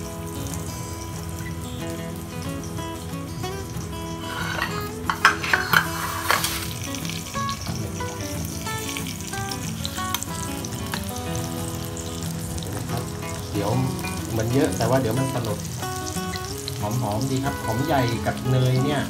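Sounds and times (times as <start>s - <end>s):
onions sizzling in a pan: 0.0s - 19.0s.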